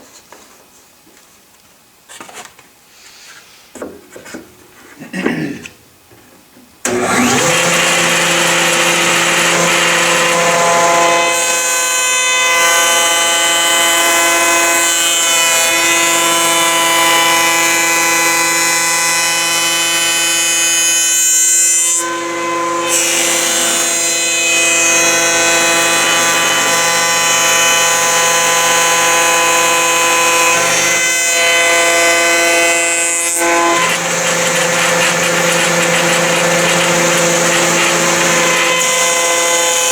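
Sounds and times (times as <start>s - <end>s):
woodworking power tool humming: 6.8s - 39.9s.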